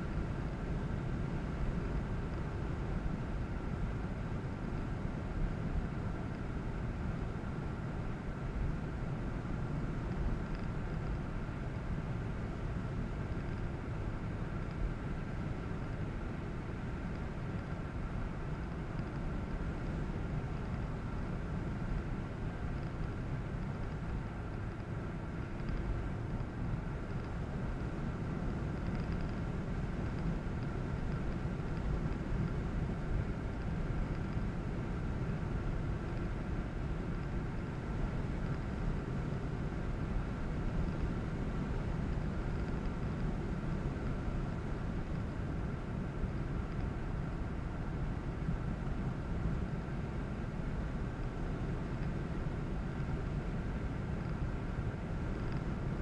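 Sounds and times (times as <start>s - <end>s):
car tyres and engine rumbling: 0.0s - 56.0s
faint high hum: 0.0s - 56.0s.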